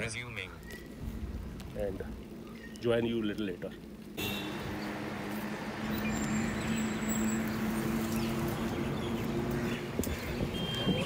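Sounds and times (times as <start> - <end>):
bicycle road noise: 0.0 - 11.0.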